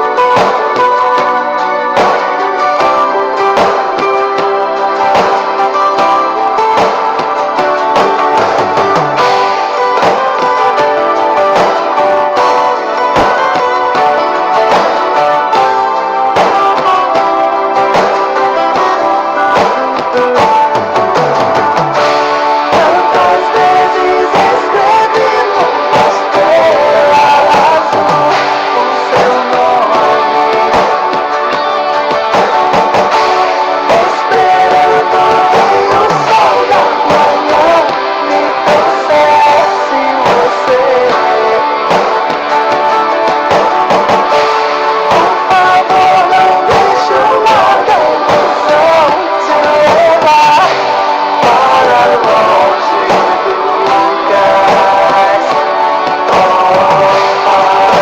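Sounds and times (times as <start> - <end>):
guitars: 0.0 - 58.0
pop-rock band music: 0.0 - 58.0
steady drum beat: 1.9 - 58.0.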